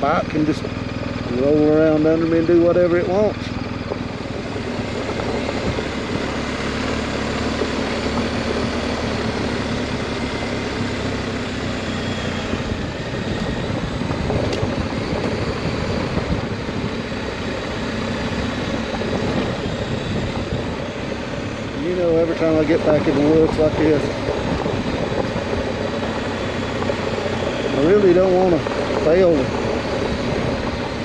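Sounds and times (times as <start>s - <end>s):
motorcycle engine running: 0.0s - 31.0s
road noise: 0.0s - 31.0s
wind noise: 1.3s - 10.4s, 12.0s - 31.0s.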